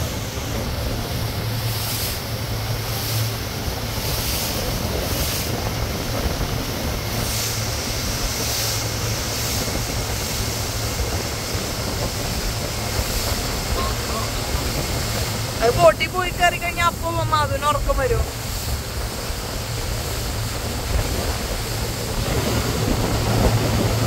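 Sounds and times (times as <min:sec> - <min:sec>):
motorboat engine humming: 0:00.0 - 0:24.0
water rushing past hull: 0:00.0 - 0:24.0
wind buffeting microphone: 0:00.0 - 0:24.0.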